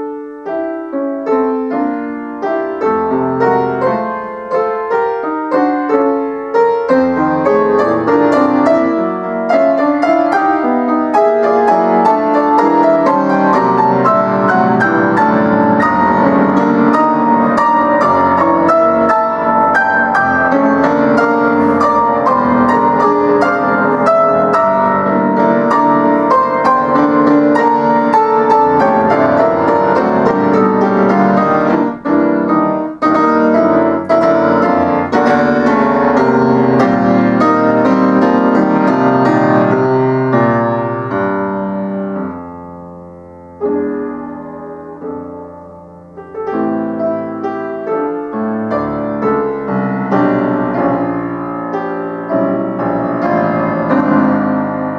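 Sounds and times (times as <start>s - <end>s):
solo piano piece: 0.0s - 54.9s.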